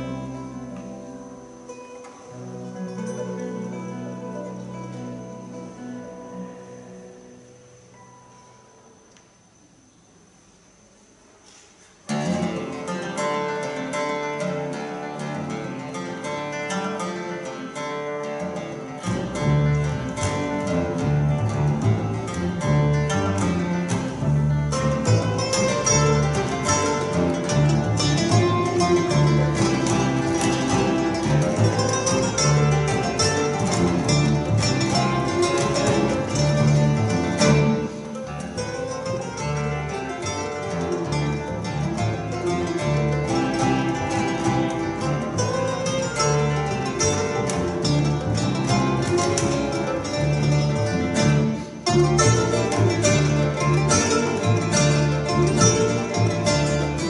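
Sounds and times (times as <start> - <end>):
double bass: 0.0 - 9.0, 12.0 - 57.0
mandolin: 0.0 - 10.0, 10.6 - 57.0
acoustic guitar: 0.0 - 57.0.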